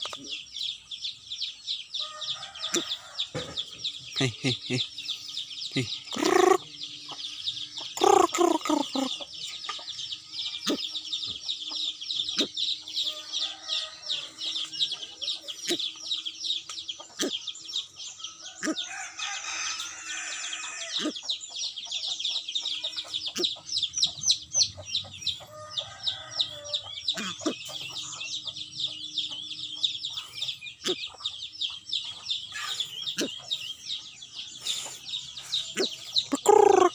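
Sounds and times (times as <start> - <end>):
rapid high bird chirps: 0.0 - 36.9.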